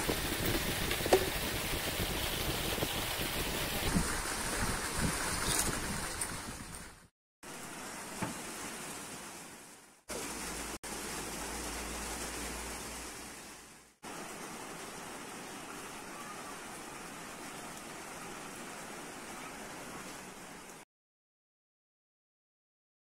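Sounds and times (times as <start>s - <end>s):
steady rain falling: 0.0s - 20.8s.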